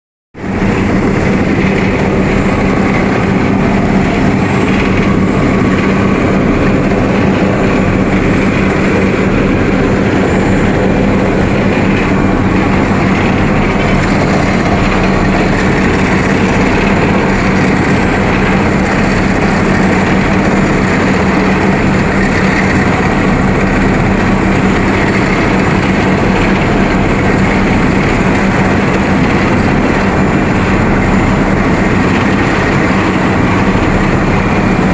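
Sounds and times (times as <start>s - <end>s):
asphalt paver diesel engine drone: 0.4s - 34.9s.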